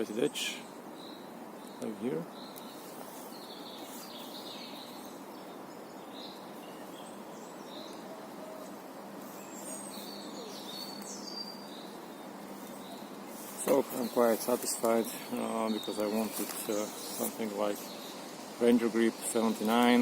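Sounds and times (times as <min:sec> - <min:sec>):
small birds chirping: 0:00.0 - 0:20.0
steady background hiss: 0:00.0 - 0:20.0.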